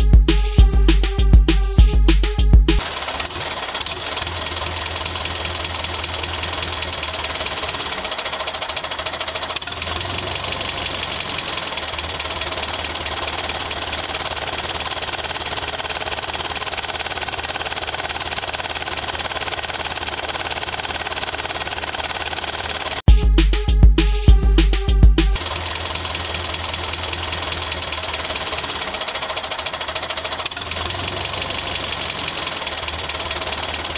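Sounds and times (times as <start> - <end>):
toy tractor motor droning: 2.8 - 23.1, 25.4 - 33.9.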